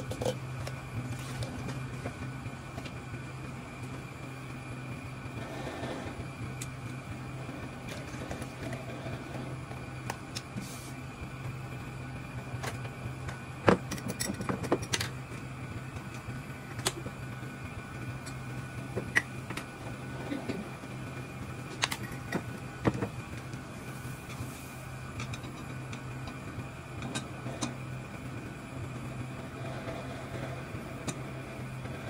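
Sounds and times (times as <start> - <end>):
low kitchen hum: 0.0 - 32.0.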